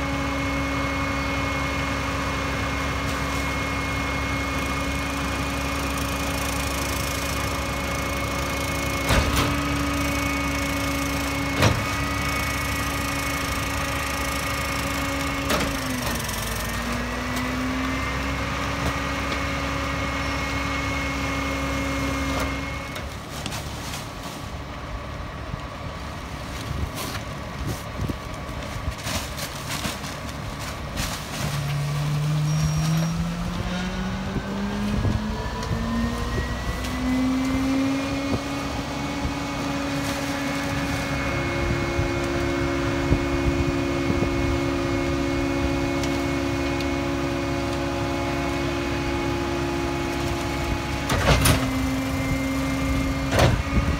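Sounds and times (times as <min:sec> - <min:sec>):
garbage truck engine running: 0:00.0 - 0:53.9.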